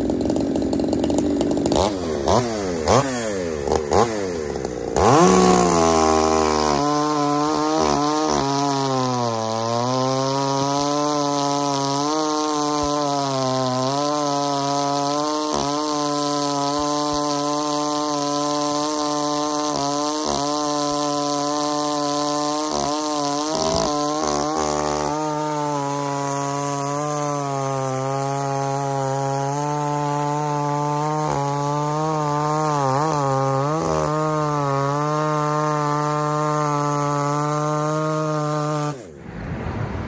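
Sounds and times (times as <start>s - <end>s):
chainsaw cutting log at full throttle: 0.0s - 39.3s.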